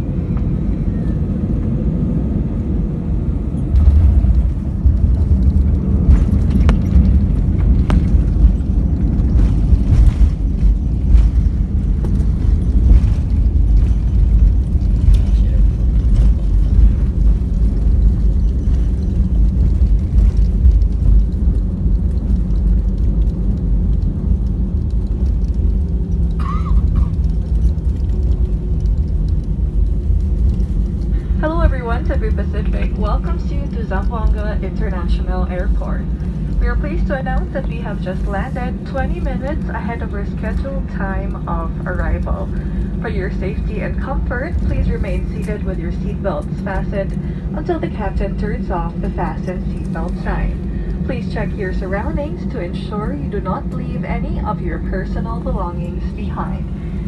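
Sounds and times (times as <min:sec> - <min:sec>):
airliner engines and wheels rumbling: 0:00.0 - 0:57.0.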